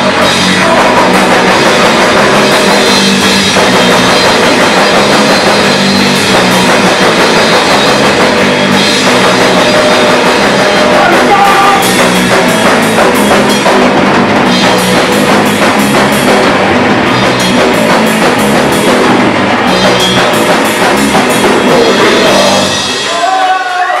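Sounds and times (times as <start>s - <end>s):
punk band playing loud: 0.0s - 24.0s.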